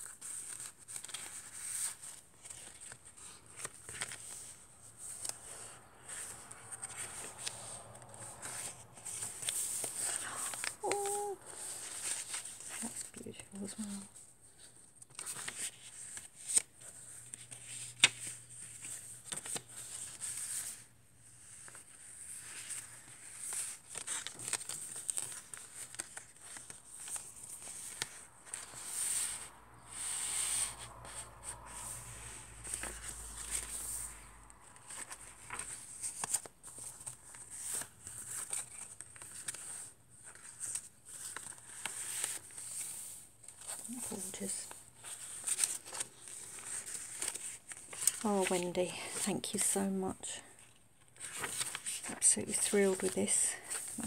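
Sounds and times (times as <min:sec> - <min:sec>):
paper pages rustling: 0:00.0 - 0:54.0.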